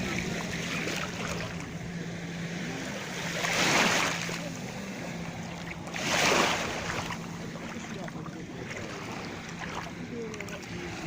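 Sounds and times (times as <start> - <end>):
small waves washing onto shore: 0.0 - 11.0
steady low hum: 0.0 - 11.0.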